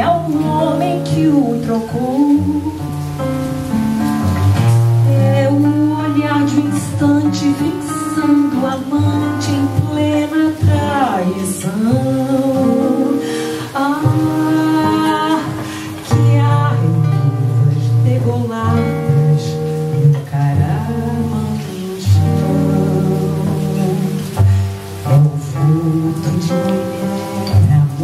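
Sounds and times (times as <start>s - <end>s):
woman singing: 0.0s - 3.3s, 4.6s - 28.0s
nylon-string acoustic guitar: 0.0s - 28.0s.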